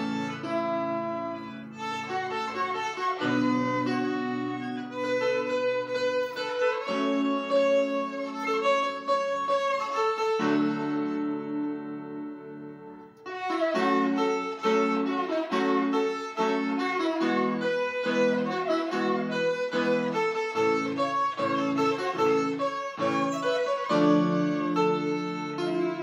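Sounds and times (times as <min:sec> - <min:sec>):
keyboard chords: 0:00.0 - 0:26.0
violin melody: 0:00.0 - 0:26.0.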